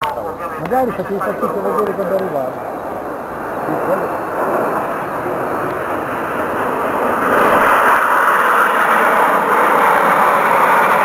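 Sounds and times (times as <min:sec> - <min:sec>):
jet aircraft flying over: 0:00.0 - 0:11.0.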